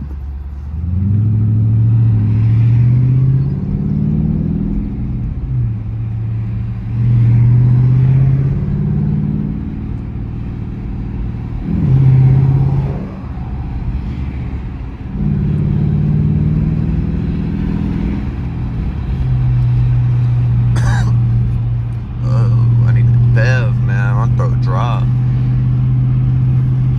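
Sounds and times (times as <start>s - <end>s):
car exhaust while driving: 0.0s - 26.9s.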